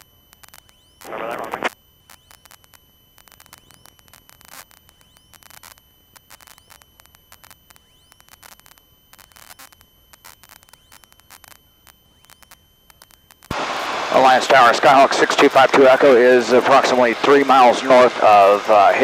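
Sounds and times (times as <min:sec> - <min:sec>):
crackling static and hum: 0:00.0 - 0:19.0
intercom clicks: 0:00.0 - 0:19.0
steady high whine: 0:00.0 - 0:19.0.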